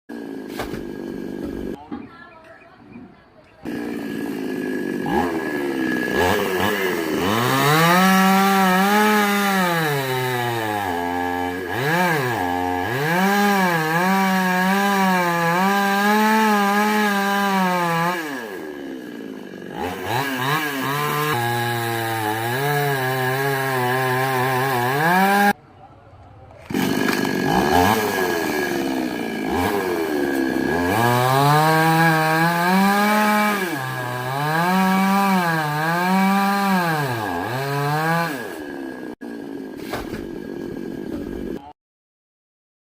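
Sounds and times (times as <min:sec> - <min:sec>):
chainsaw cutting wood: 0:00.1 - 0:01.8, 0:03.6 - 0:25.6, 0:26.6 - 0:41.7.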